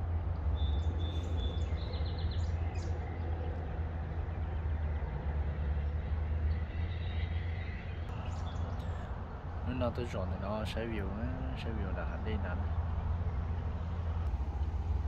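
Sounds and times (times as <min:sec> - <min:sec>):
birds chirping: 0:00.0 - 0:14.4
low outdoor rumble: 0:00.0 - 0:15.0.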